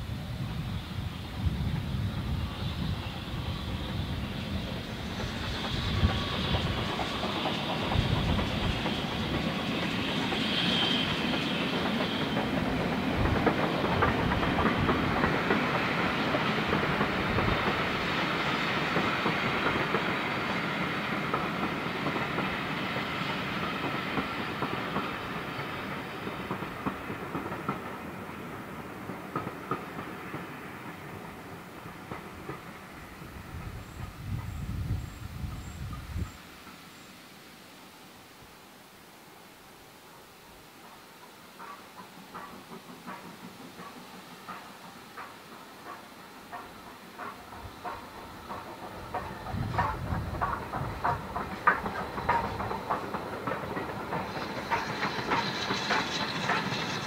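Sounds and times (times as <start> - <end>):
train coaches running over track: 0.0 - 37.6, 40.1 - 57.0
steam locomotive passing: 0.0 - 57.0.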